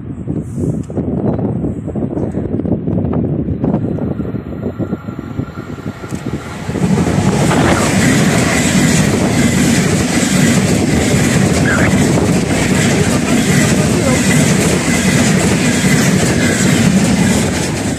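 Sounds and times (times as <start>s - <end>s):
high-speed train passing: 0.0s - 17.9s.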